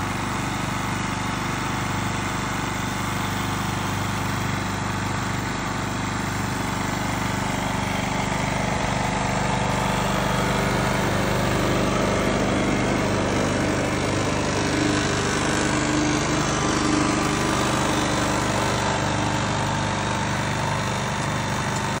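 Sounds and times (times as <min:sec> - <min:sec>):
motor droning: 0:03.0 - 0:22.0.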